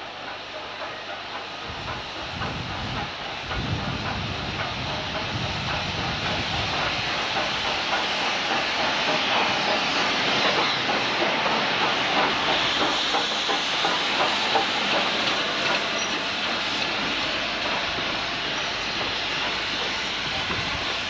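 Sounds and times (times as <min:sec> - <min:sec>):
loud hiss of escaping steam: 0:00.0 - 0:21.0.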